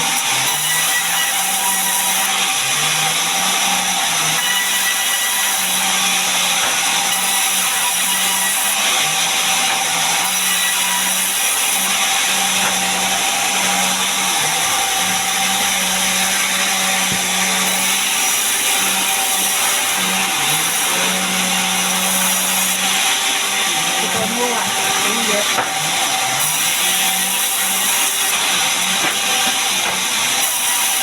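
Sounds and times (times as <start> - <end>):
saw cutting timber: 0.0 - 31.0.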